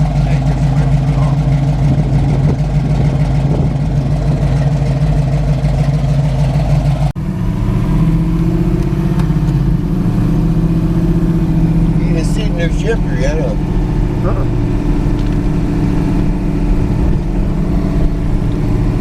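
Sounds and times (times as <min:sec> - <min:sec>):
car engine running steadily: 0:00.0 - 0:19.0.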